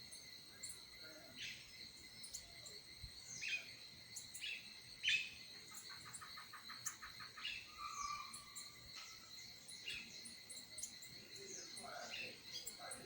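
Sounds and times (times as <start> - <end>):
high insect whine: 0.0 - 13.0
small birds chirping: 0.0 - 13.0.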